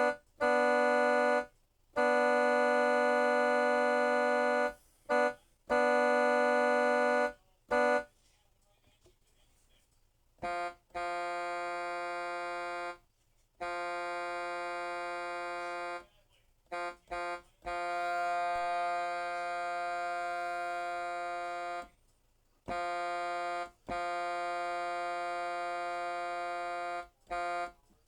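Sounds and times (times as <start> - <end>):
truck horn blasts: 0.0 - 8.1, 10.4 - 13.0, 13.6 - 16.1, 16.7 - 21.9, 22.7 - 27.8.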